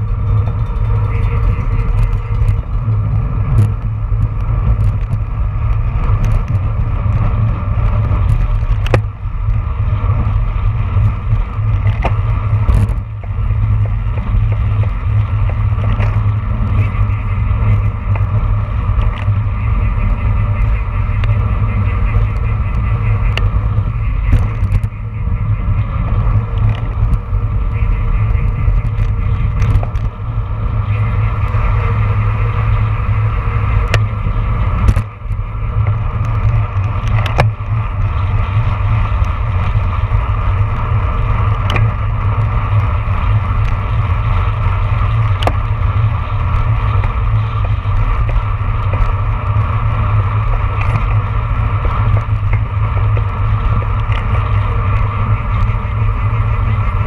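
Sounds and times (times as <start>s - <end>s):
bike clicks and knocks: 0.0s - 57.0s
tyre noise on road: 0.0s - 57.0s
wind buffeting microphone: 0.0s - 57.0s.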